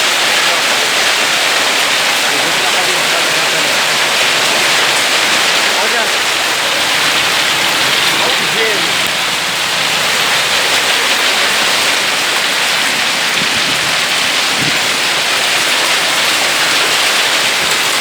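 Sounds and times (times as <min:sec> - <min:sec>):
heavy rain and hail: 0:00.0 - 0:18.0.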